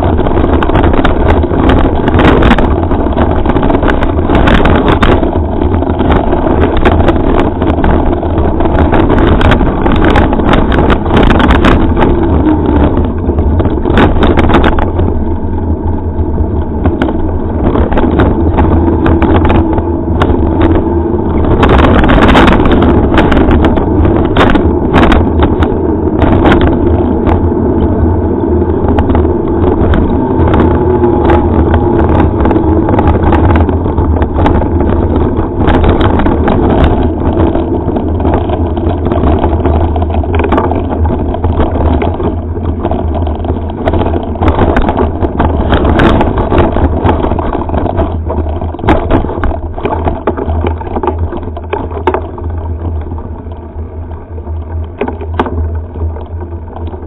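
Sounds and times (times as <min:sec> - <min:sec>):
bike knocks and rattles: 0:00.0 - 0:57.0
tyres rumbling on dirt track: 0:00.0 - 0:57.0
wind on microphone: 0:00.0 - 0:57.0.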